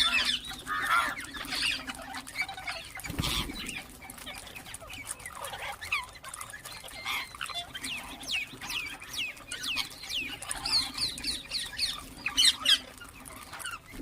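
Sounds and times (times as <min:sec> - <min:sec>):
parakeets squawking: 0:00.0 - 0:14.0.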